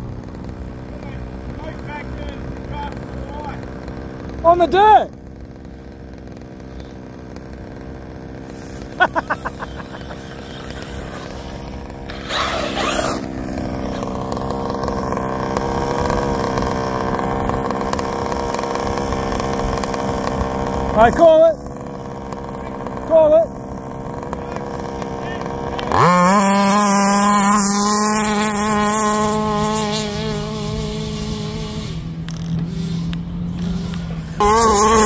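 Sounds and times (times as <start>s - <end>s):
small two-stroke engine running: 0.0s - 35.0s.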